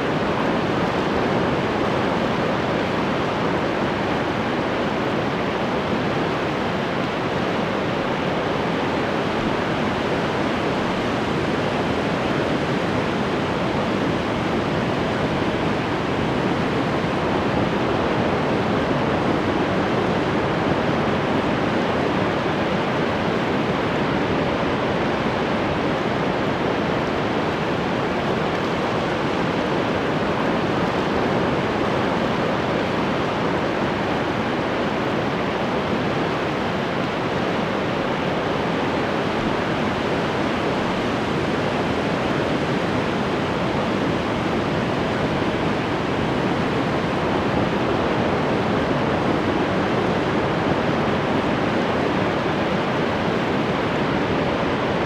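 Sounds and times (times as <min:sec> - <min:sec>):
ocean surf washing: 0:00.0 - 0:55.0.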